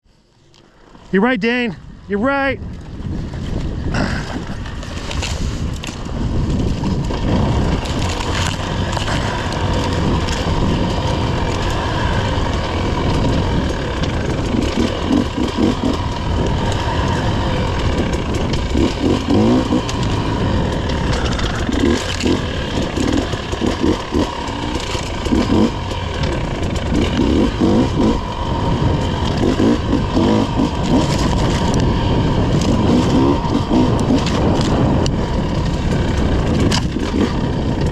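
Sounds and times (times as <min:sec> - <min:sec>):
motorcycle engine revving: 0:02.2 - 0:37.9.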